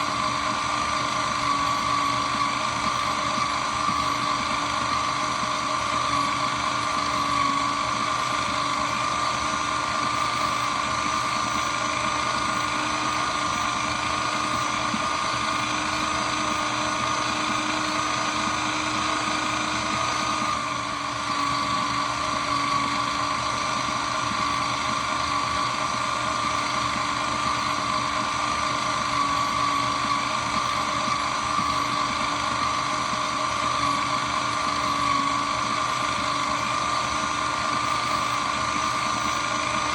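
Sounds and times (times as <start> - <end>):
shredder machine running: 0.0 - 39.9.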